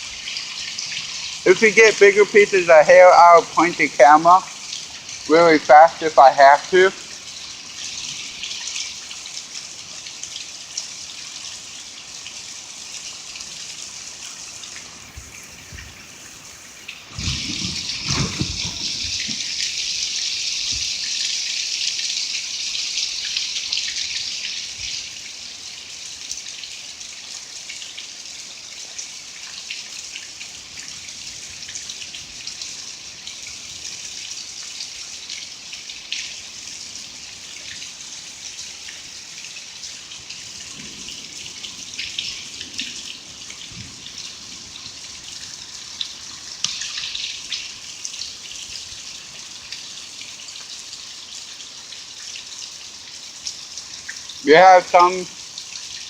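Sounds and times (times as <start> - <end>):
rain and hail falling: 0.0 - 56.0.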